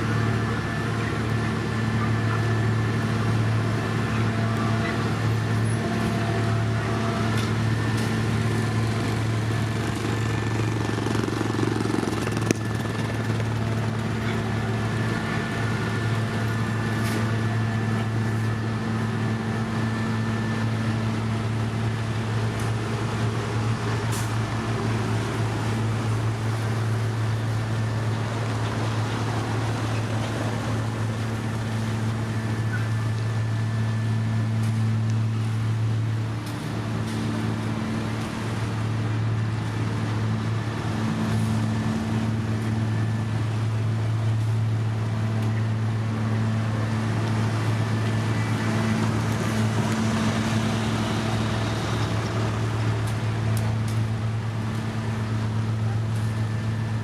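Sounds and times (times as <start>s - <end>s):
diesel machinery engines droning: 0.0s - 57.0s.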